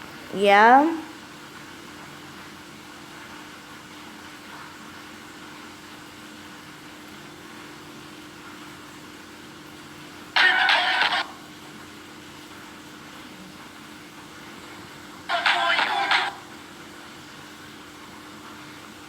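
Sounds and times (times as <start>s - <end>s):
fan or air conditioner hum: 0.0s - 19.0s.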